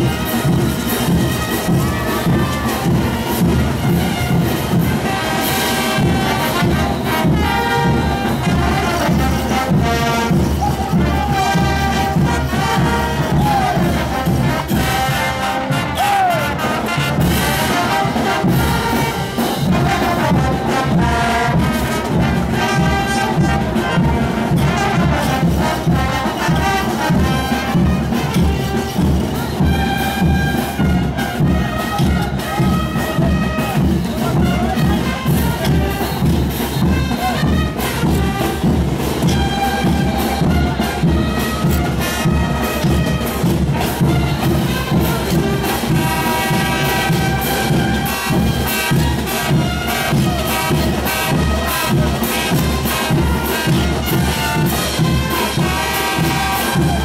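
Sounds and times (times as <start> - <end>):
brass band playing dance music: 0.0 - 57.0.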